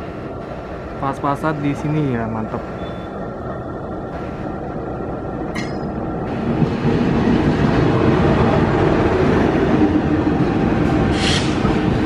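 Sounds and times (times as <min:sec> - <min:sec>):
diesel locomotive engine passing: 0:00.0 - 0:12.0.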